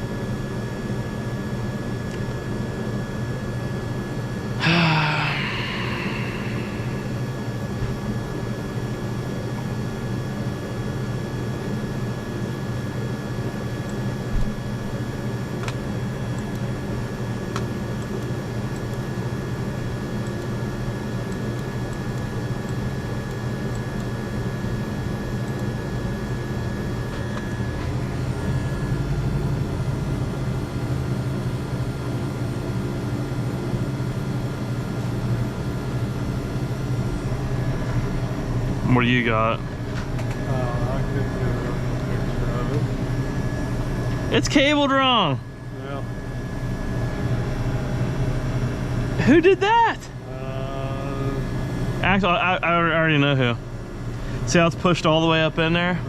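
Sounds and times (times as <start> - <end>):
mechanical hum: 0.0 - 56.0.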